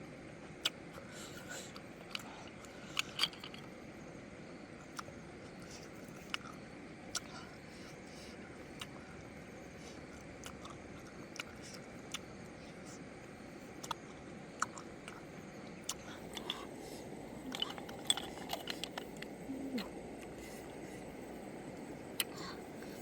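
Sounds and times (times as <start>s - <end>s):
steady background hiss: 0.0s - 23.0s
person chewing snails: 0.4s - 3.9s, 4.8s - 23.0s.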